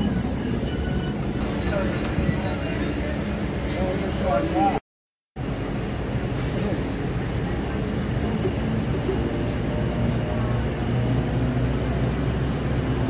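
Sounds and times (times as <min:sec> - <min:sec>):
train standing humming: 0:00.0 - 0:04.8, 0:05.4 - 0:13.0.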